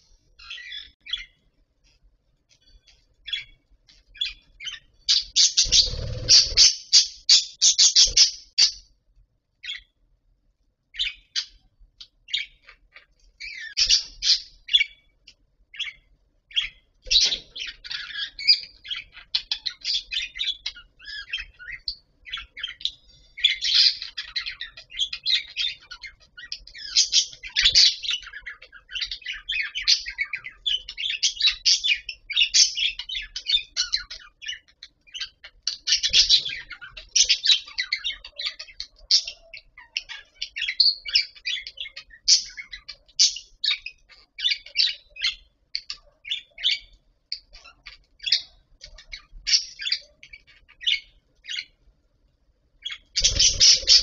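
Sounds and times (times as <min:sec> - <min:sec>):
budgerigars chattering: 0:00.0 - 0:01.4, 0:02.7 - 0:08.9, 0:11.0 - 0:51.8, 0:52.8 - 0:54.0.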